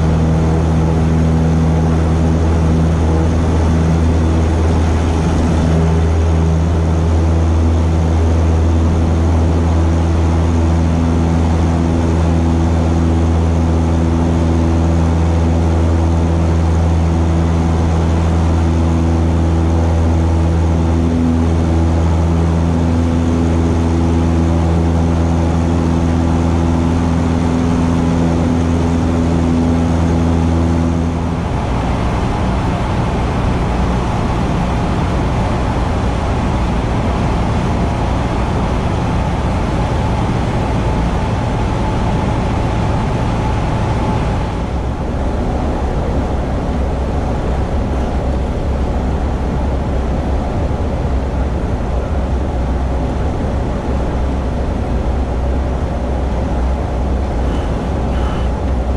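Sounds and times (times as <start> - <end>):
light aircraft engine droning: 0.0 - 58.9.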